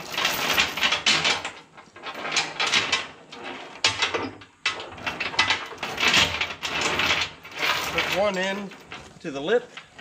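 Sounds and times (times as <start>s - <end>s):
heavy chain rattling on steel: 0.0s - 10.0s.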